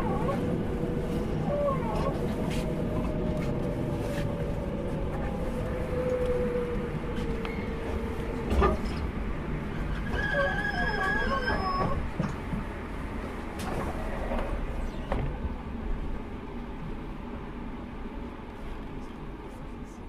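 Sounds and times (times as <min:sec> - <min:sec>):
train hum: 0:00.0 - 0:20.0.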